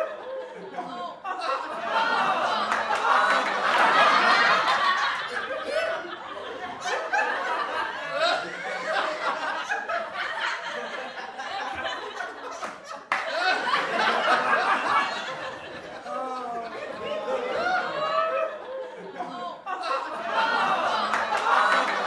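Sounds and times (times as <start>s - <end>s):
group of people laughing: 0.0s - 22.0s.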